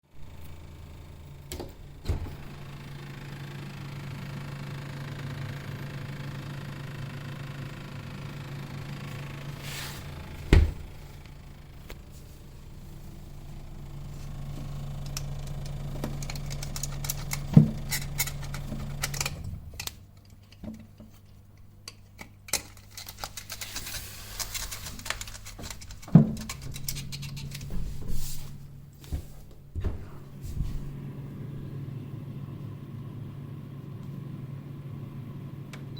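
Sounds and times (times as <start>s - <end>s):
fridge compressor hum: 0.1s - 35.9s.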